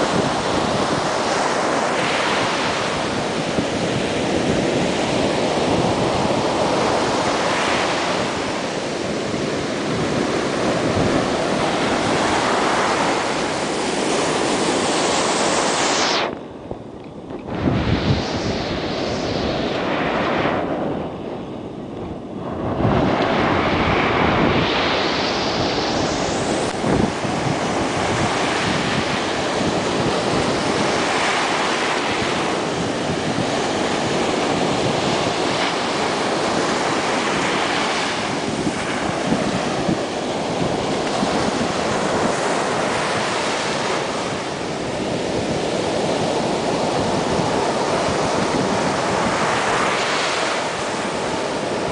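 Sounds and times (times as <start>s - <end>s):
surf breaking on sand: 0.0s - 16.5s, 17.4s - 21.6s, 22.5s - 51.9s
wind buffeting microphone: 0.0s - 51.9s.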